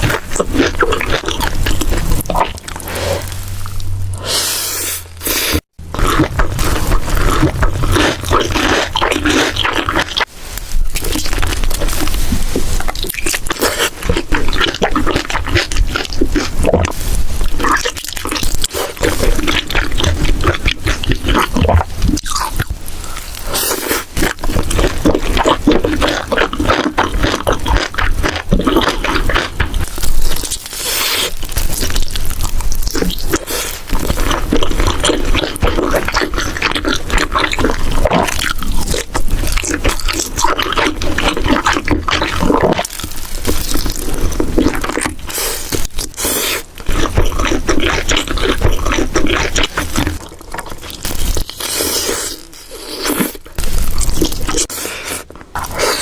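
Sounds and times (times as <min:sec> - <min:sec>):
chewing and crunching food: 0:00.0 - 0:04.4, 0:05.2 - 0:56.0.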